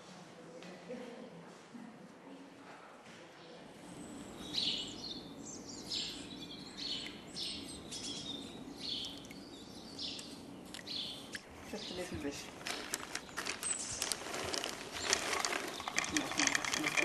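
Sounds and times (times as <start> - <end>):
low background hum: 0.0 - 17.0
songbirds chirping: 3.3 - 17.0.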